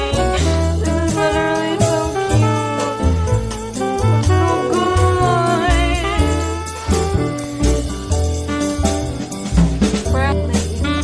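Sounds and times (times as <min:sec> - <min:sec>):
swing jazz music with saxophone: 0:00.0 - 0:11.0.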